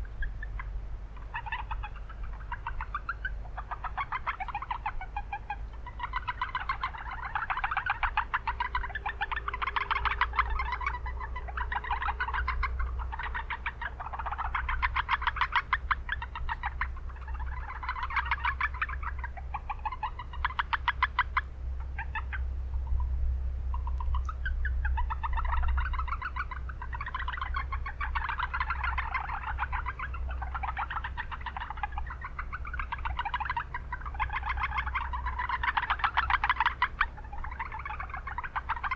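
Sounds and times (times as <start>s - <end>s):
frogs calling: 0.0s - 38.9s
low town background hum: 0.0s - 38.9s.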